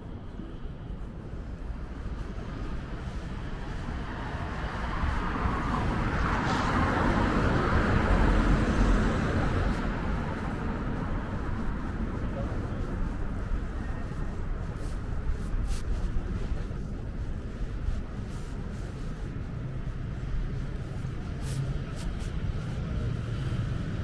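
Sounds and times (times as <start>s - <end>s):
steady traffic noise: 0.0s - 24.0s.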